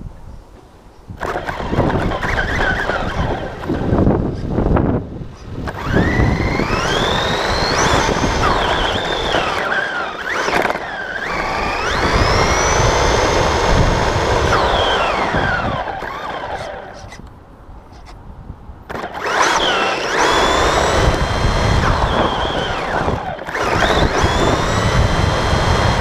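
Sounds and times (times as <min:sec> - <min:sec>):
rc car motor whine: 0:01.2 - 0:17.3, 0:18.9 - 0:26.0.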